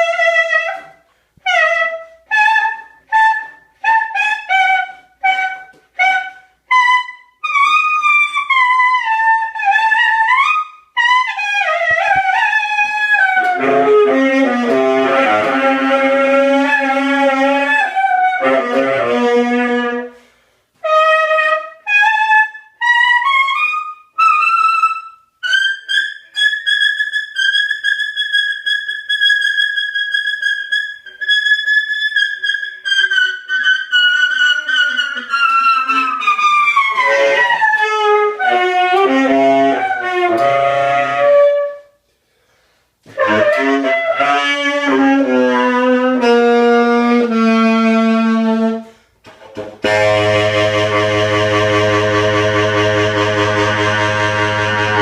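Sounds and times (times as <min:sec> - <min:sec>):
solo saxophone free jazz: 0:00.0 - 0:26.5, 0:32.3 - 0:55.0.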